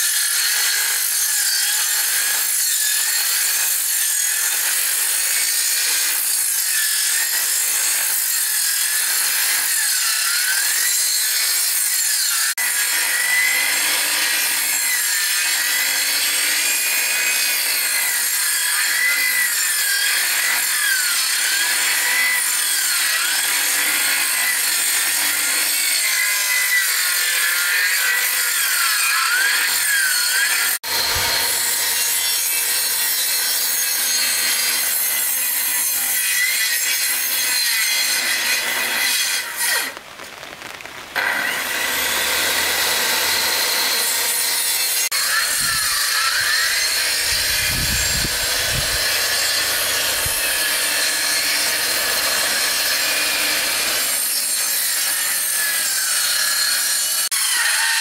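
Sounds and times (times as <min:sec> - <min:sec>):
wood being sawn: 0:00.0 - 0:58.0.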